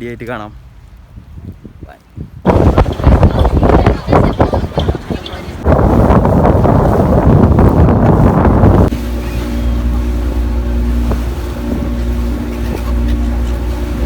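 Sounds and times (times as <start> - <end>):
wind buffeting microphone: 0.8 - 14.0
boat engine droning: 2.5 - 14.0.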